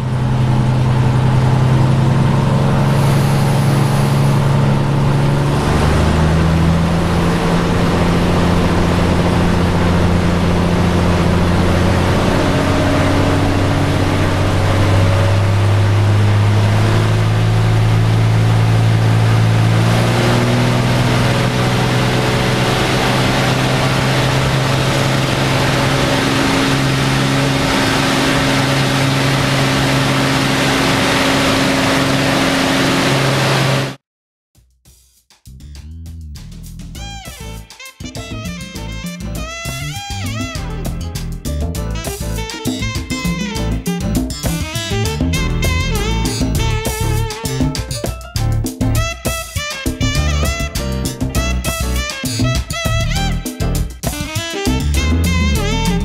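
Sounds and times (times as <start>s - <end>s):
propeller engine drone: 0.0s - 34.0s, 37.4s - 56.0s.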